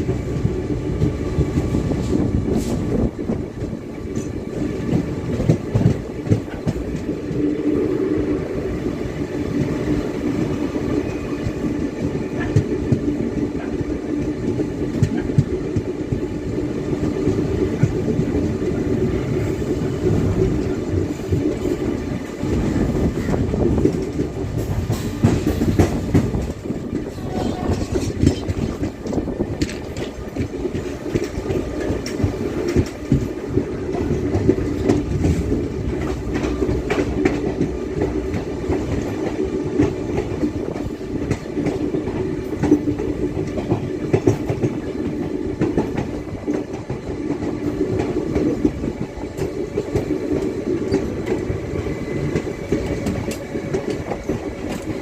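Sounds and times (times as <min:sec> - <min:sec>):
train wheels clattering over rails: 0:00.0 - 0:55.0.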